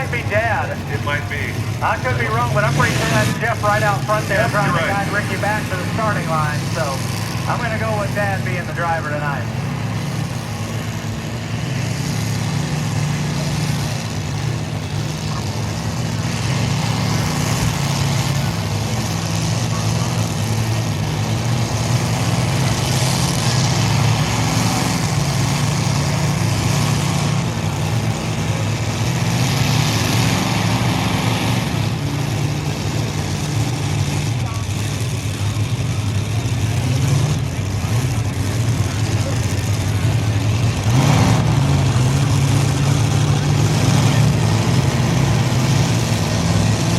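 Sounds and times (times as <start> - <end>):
tractor engine droning: 0.0 - 46.9.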